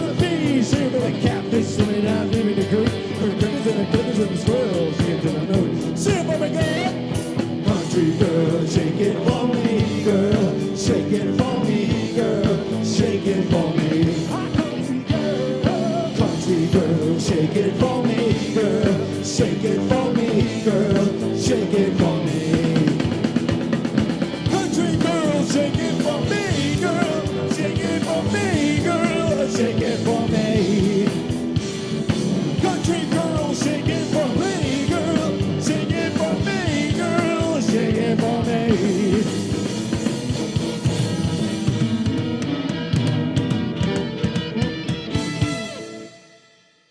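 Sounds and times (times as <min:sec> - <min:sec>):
band playing country-rock: 0:00.0 - 0:46.5.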